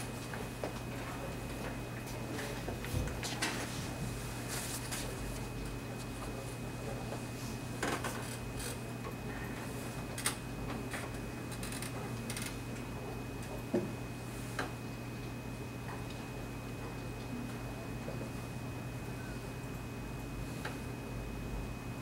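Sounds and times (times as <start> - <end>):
low hum with high tone: 0.0 - 22.0.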